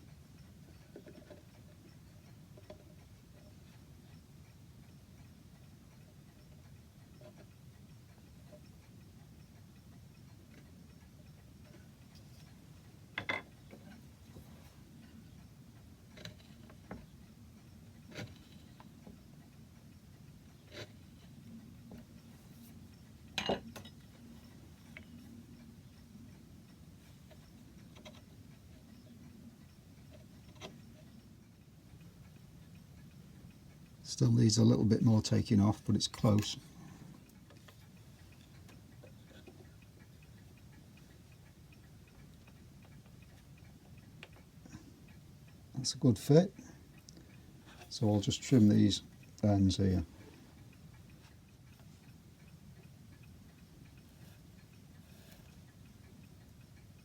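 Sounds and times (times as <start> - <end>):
clock ticking faintly: 0.0 - 57.0
low steady hum: 0.0 - 57.0.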